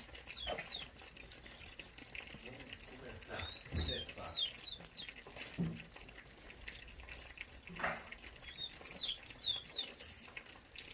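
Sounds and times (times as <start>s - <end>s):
running water splashing: 0.0s - 10.9s.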